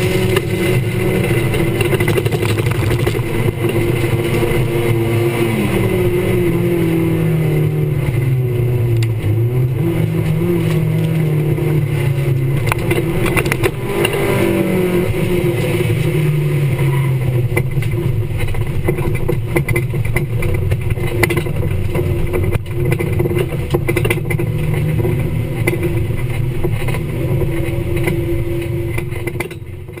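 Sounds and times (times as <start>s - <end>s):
car engine revving: 0.0s - 30.0s
rattles and clicks from car: 0.0s - 30.0s.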